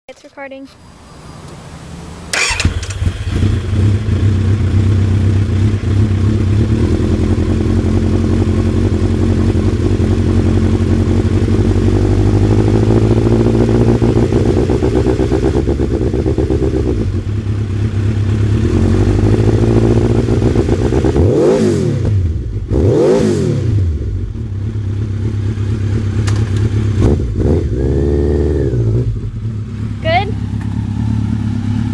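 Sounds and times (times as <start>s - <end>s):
motorcycle engine idling and revving: 0.1s - 31.9s.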